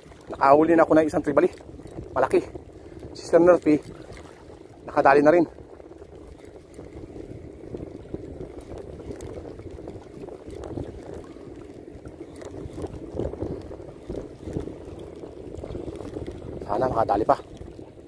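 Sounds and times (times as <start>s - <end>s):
waves lapping against rocks: 0.0s - 18.0s.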